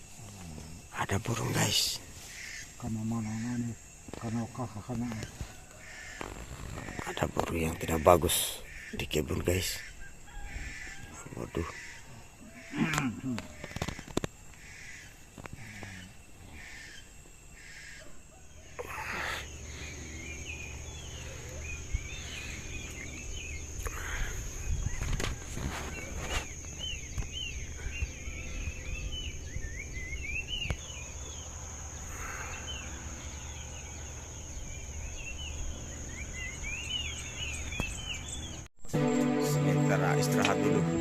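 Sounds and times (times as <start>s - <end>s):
high-pitched insect drone: 0.0s - 37.8s, 38.9s - 41.0s
birds chirping: 0.0s - 41.0s.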